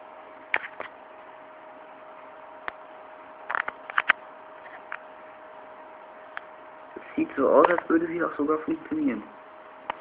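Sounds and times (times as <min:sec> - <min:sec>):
faint steady whine: 0:00.0 - 0:10.0.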